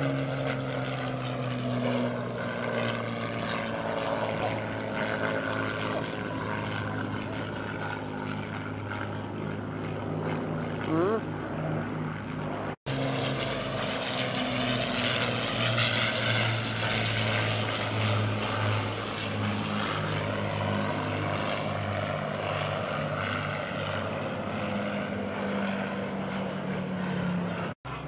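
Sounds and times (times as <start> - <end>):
aircraft piston engines droning: 0.0 - 28.0.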